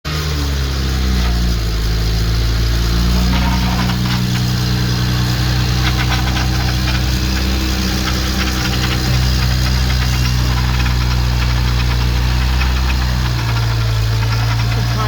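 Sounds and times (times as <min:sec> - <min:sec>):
car engine idling: 0:00.1 - 0:15.0
engine ticking knocks: 0:00.1 - 0:15.0.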